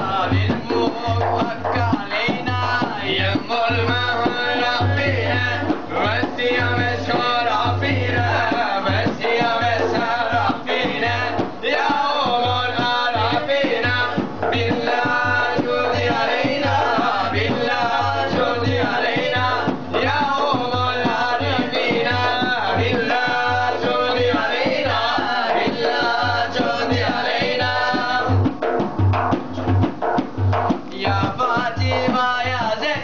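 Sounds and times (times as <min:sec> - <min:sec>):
men singing together: 0:00.0 - 0:28.6, 0:30.9 - 0:33.0
frame drum beat: 0:00.0 - 0:33.0.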